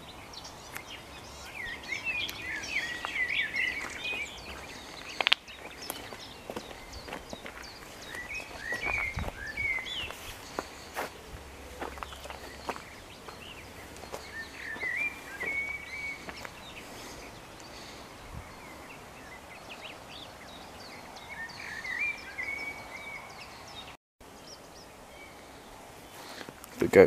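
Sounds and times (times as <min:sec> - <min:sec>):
faint rural background: 0:00.0 - 0:27.0
songbird chirping: 0:00.0 - 0:27.0.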